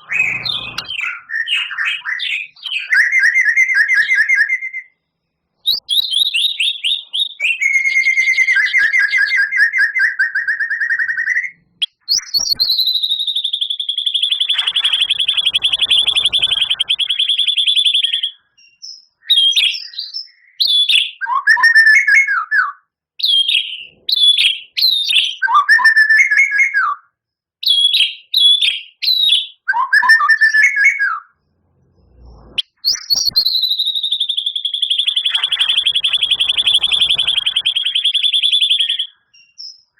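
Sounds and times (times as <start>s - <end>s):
bird singing trills: 0.0s - 4.9s, 5.6s - 22.2s, 23.2s - 26.7s, 32.2s - 39.9s.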